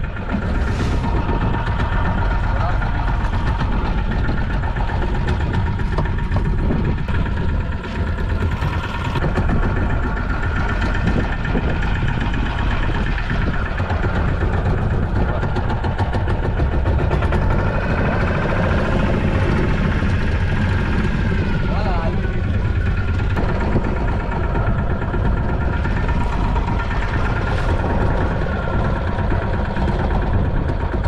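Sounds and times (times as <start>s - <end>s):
boat engine rumbling: 0.0s - 31.0s.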